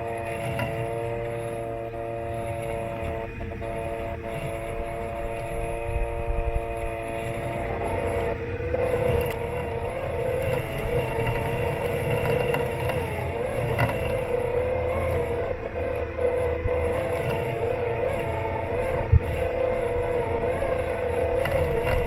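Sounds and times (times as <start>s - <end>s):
electric motor whine: 0.0s - 22.0s
low rumble of mower driving: 0.0s - 22.0s.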